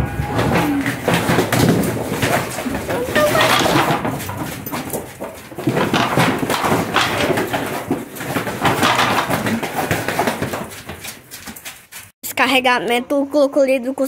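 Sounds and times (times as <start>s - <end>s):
cattle hooves knocking and thudding: 0.0s - 12.2s.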